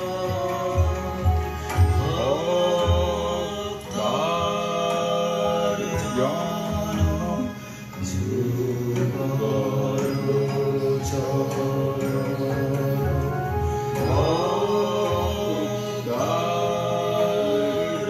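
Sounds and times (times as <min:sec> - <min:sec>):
devotional chanting: 0:00.0 - 0:18.0.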